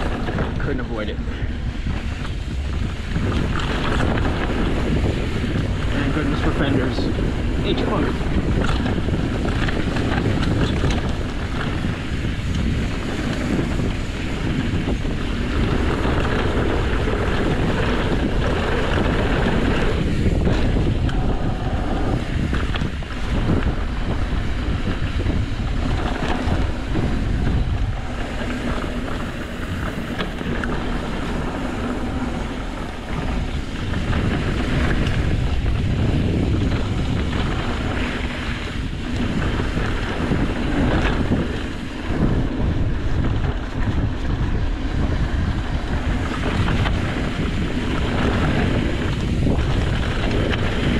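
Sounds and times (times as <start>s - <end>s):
bike rattling and knocking: 0.0s - 50.9s
bike tyre rumble: 0.0s - 50.9s
wind buffeting microphone: 0.0s - 50.9s.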